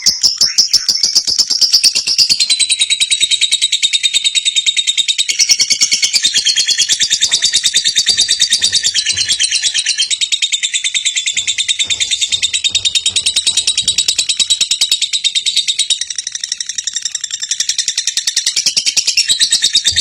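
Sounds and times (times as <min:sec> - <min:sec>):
bird chattering high chirps: 0:00.0 - 0:20.0.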